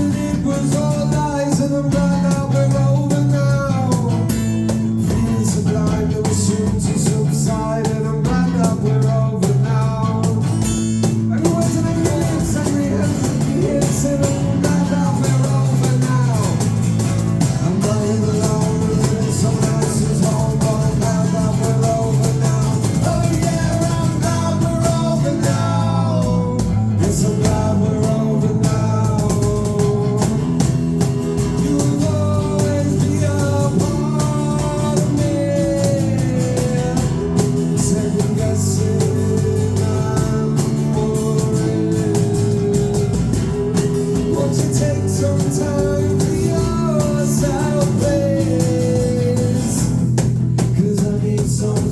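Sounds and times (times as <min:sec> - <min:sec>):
live band playing guitar-led song: 0:00.0 - 0:51.9.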